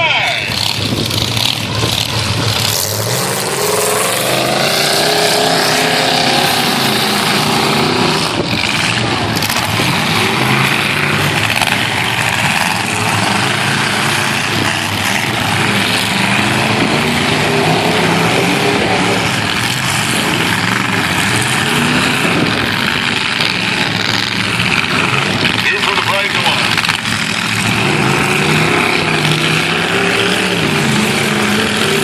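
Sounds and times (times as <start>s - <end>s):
pickup truck engines revving: 0.0s - 32.0s.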